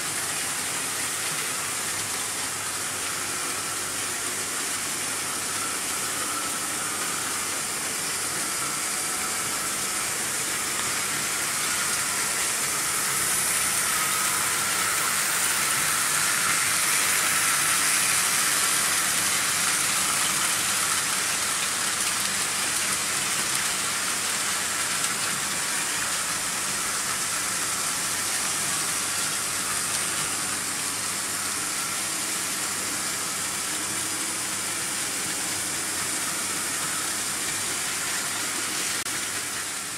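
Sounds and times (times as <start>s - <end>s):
model trains rolling and rattling: 0.0s - 39.9s.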